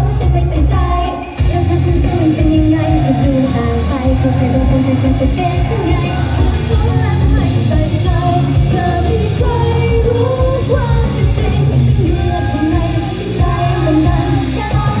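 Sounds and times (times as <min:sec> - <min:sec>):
pop backing track with bass: 0:00.0 - 0:15.0
woman singing into microphone: 0:00.0 - 0:15.0.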